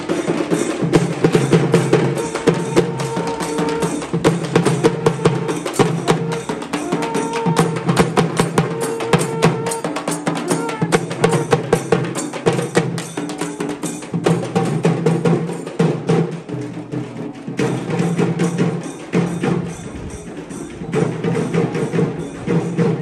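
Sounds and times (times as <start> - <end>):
drums struck rapidly: 0.0 - 23.0.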